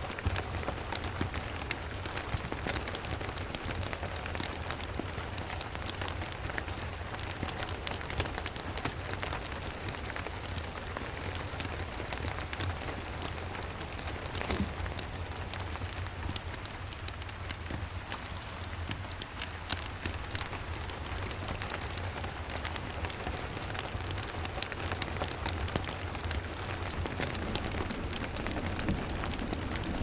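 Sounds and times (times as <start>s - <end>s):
drips and ticks: 0.0s - 30.0s
steady rain falling: 0.0s - 30.0s.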